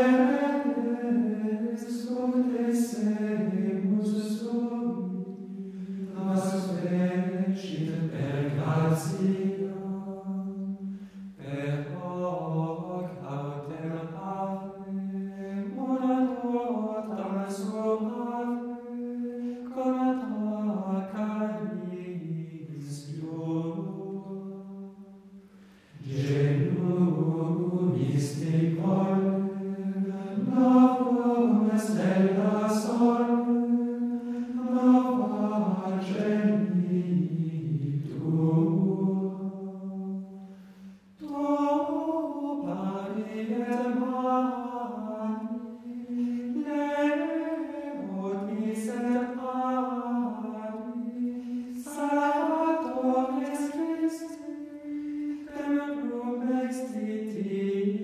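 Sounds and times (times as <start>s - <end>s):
choir singing sacred music: 0.0s - 58.0s.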